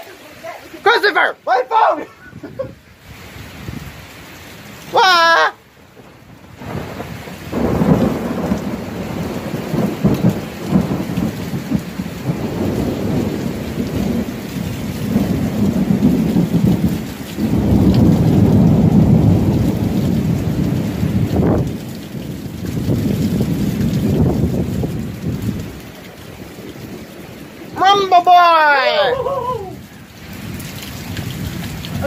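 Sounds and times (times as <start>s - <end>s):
heavy rain beating: 0.0s - 32.0s
wind: 0.0s - 32.0s.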